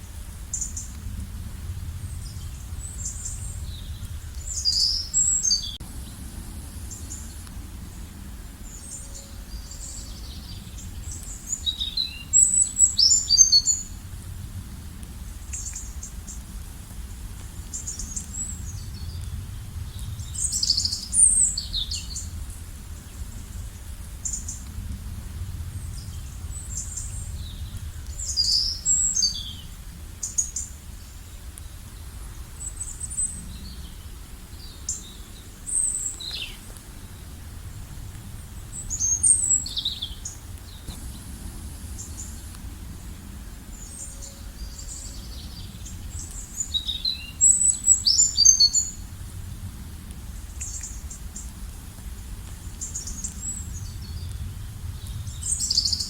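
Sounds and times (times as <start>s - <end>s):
songbirds chirping and trilling: 0.0s - 14.3s, 15.2s - 24.9s, 25.6s - 49.4s, 52.7s - 56.0s
low outdoor rumble: 0.0s - 56.0s.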